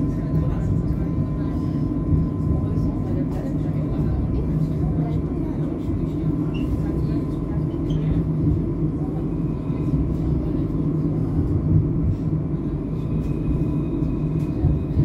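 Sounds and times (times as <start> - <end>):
tram rumble: 0.0 - 15.0.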